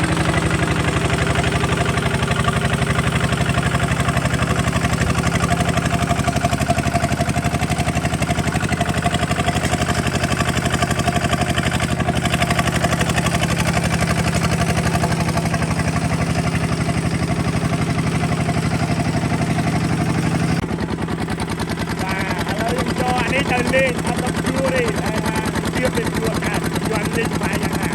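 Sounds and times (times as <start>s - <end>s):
diesel engine chugging: 0.0s - 27.9s.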